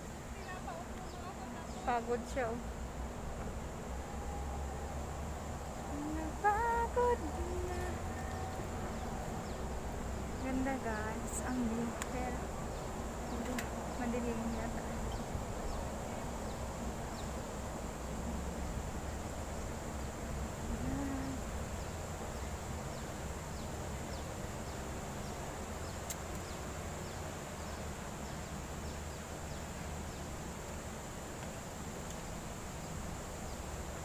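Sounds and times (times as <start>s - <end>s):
low steady rumble: 0.0s - 34.0s.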